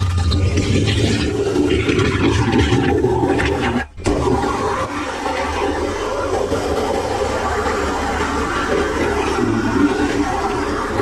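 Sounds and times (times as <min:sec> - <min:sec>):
water rushing through drain pipe: 0:00.0 - 0:11.0.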